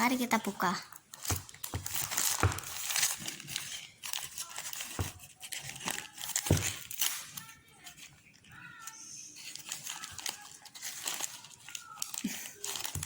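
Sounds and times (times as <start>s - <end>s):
wrapper crinkling: 0.2s - 13.0s
wrapper tearing: 0.9s - 13.0s.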